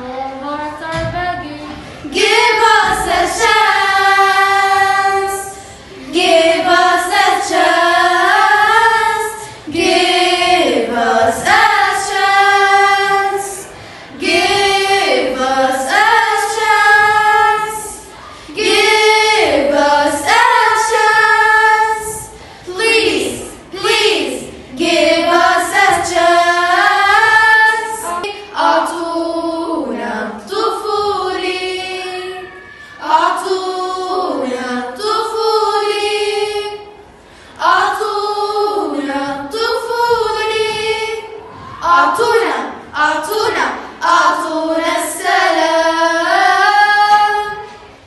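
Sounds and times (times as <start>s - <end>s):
girls singing unaccompanied: 0.0s - 48.0s.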